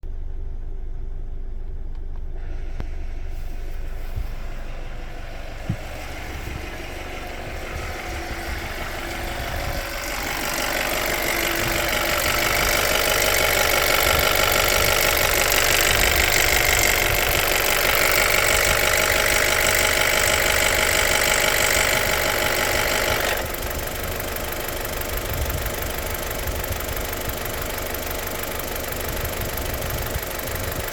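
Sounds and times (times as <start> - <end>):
car engine idling: 0.0 - 30.9
engine rattle: 0.0 - 30.9.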